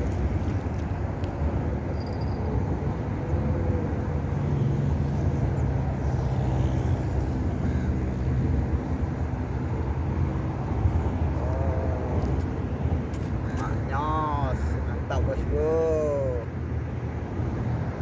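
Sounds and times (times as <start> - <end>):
thin high whine: 0.0 - 14.8
low engine drone: 0.0 - 18.0.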